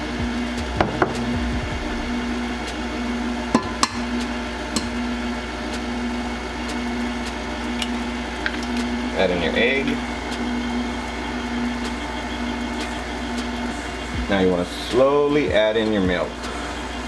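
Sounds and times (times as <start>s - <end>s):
stand mixer motor hum: 0.0s - 17.0s.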